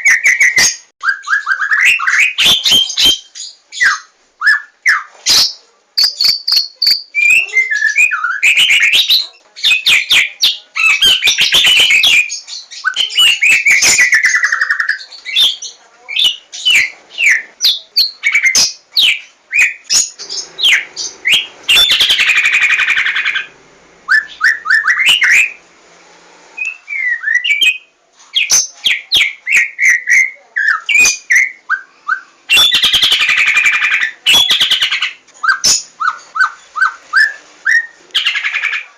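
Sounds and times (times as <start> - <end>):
songbird singing: 0.0 - 25.6, 26.6 - 38.9.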